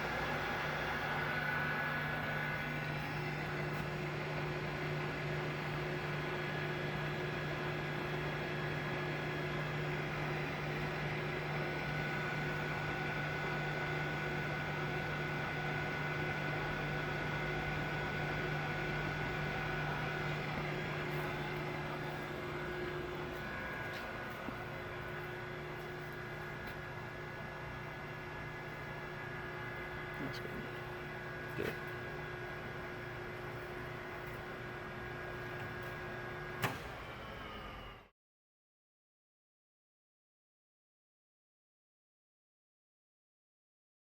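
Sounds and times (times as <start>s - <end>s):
lathe humming with whine: 0.0s - 38.1s.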